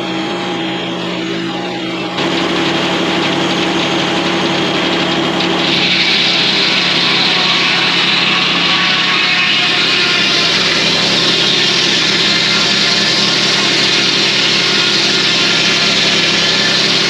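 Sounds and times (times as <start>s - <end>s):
sawmill running: 0.0s - 17.0s.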